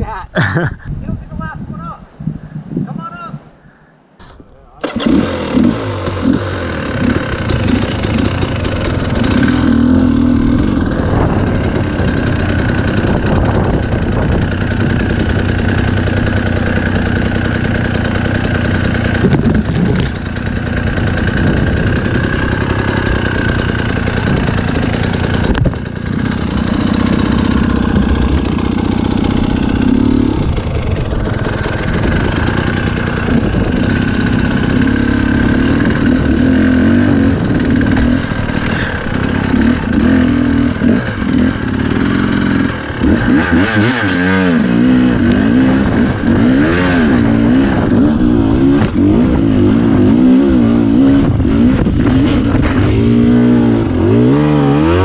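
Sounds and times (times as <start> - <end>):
dirt bike engine running: 4.2 - 55.0.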